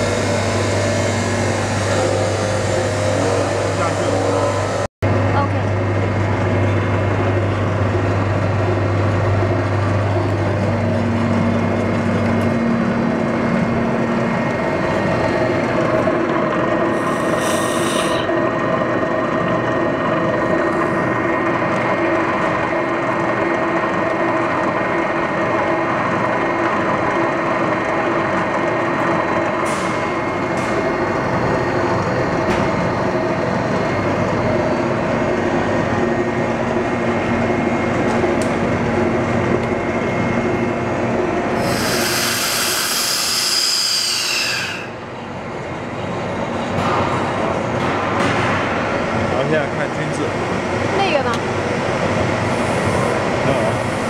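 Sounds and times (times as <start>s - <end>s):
mixer humming and whining: 0.0s - 54.0s.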